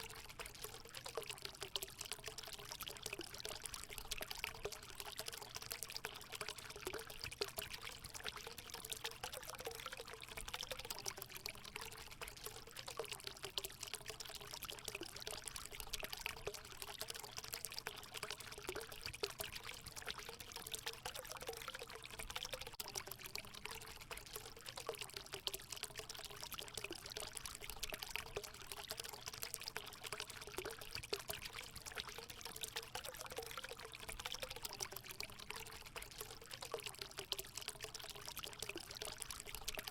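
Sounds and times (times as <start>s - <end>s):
water pouring into a pool: 0.0s - 39.9s.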